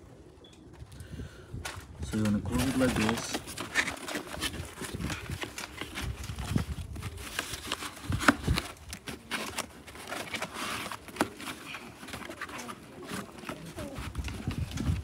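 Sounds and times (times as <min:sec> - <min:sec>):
cardboard box flaps tapping and scraping: 0:02.5 - 0:15.0.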